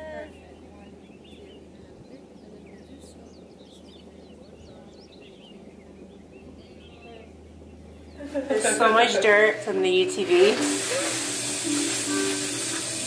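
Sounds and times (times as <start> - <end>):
birds chirping: 0.0 - 10.6
steady low hum: 0.0 - 10.6.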